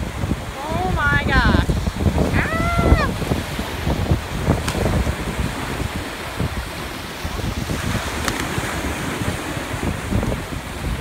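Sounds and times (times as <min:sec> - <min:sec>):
surf breaking at shoreline: 0:00.0 - 0:11.0
wind buffeting microphone: 0:00.0 - 0:11.0.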